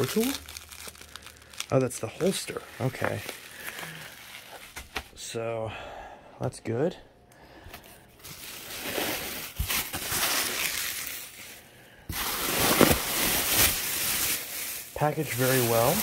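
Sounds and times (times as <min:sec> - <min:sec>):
bubble wrap crinkling: 0:00.0 - 0:05.2, 0:08.2 - 0:16.0.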